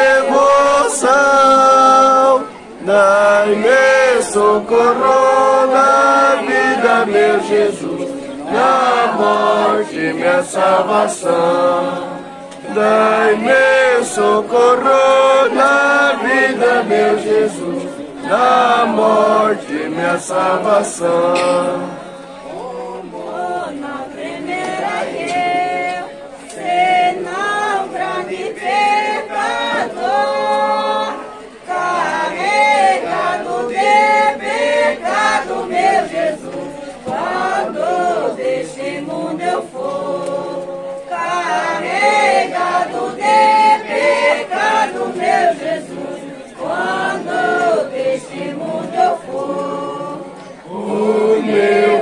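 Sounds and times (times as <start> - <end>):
group singing a slow hymn: 0.0 - 52.0.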